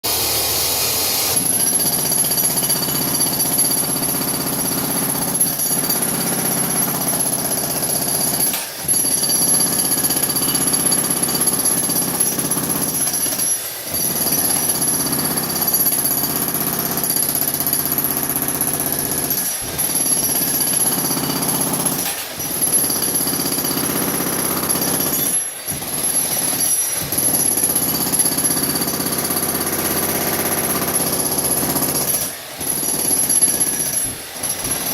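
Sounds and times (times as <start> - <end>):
jackhammer hammering: 0.0 - 34.9.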